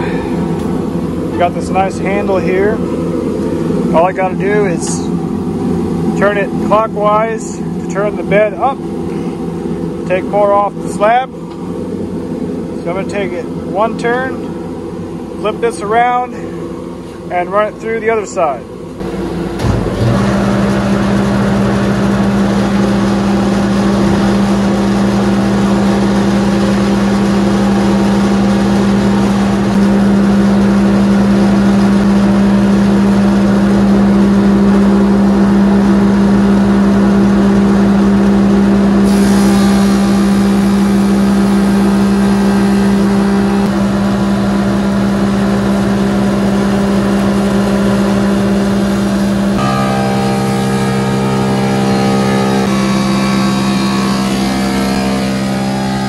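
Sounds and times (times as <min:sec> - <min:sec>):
planer motor drone: 0:00.0 - 0:56.0.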